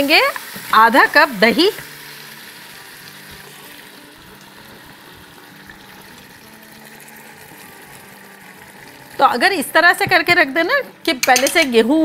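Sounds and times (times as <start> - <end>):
meat sizzling in a pot: 0.0 - 11.5.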